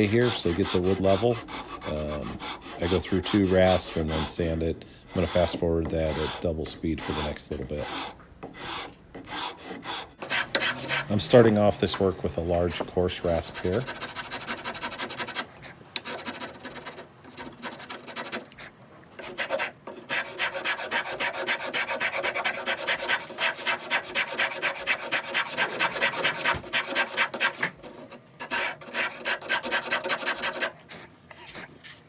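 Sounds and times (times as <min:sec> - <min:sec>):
rasp filing wood: 0:00.0 - 0:11.4, 0:12.7 - 0:31.7.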